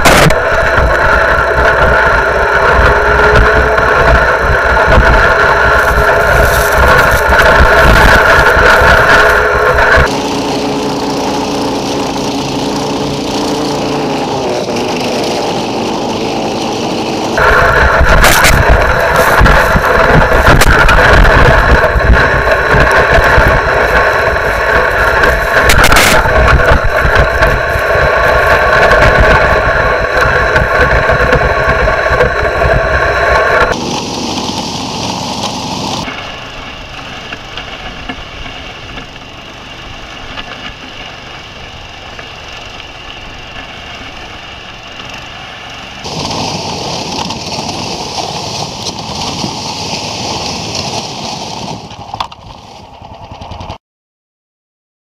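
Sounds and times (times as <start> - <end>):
snow machine engine running: 0.0 - 53.8.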